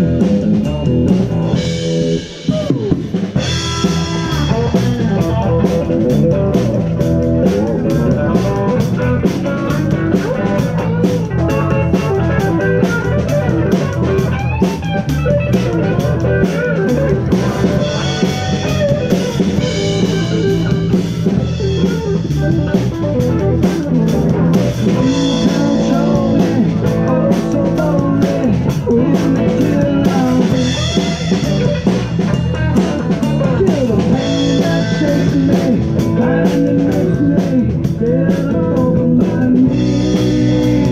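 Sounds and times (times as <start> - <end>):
bass guitar: 0.0 - 40.9
drum kit: 0.0 - 40.9
electric guitar: 0.0 - 40.9.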